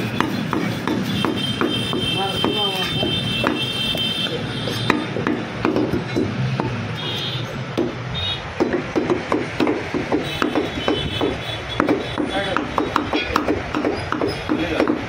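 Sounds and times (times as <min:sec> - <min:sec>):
cleaver chopping meat on wood: 0:00.0 - 0:06.9, 0:07.7 - 0:15.0.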